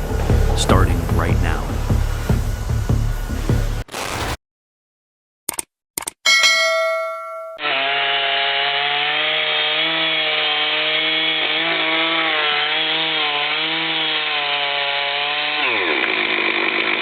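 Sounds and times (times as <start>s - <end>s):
chainsaw cutting wood: 0.0s - 4.3s, 7.6s - 17.0s.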